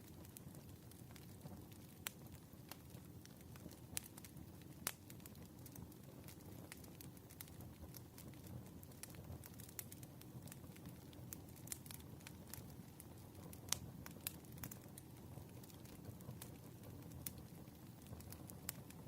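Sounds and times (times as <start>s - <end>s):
fire low rumble: 0.0s - 19.0s
wood fire crackling: 0.0s - 19.0s.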